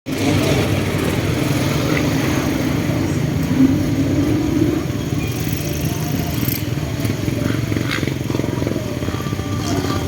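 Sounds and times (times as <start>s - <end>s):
dirt bike engine running: 0.1s - 10.0s.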